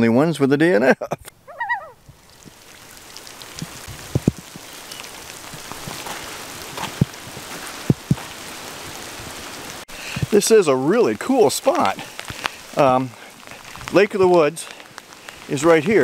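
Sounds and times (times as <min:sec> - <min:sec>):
rain on pavement and water: 0:00.6 - 0:16.0
raindrops tapping close by: 0:01.2 - 0:16.0.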